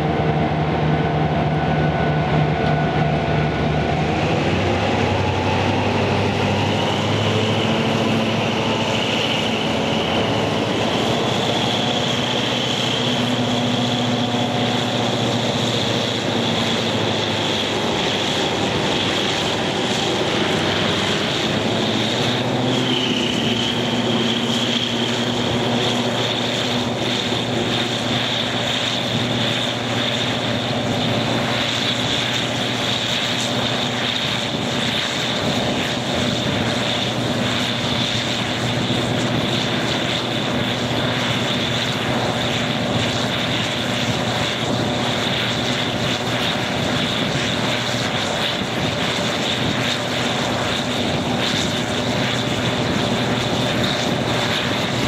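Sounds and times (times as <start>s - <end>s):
diesel locomotive engine working hard: 0.0s - 55.0s
high engine whine: 0.0s - 55.0s.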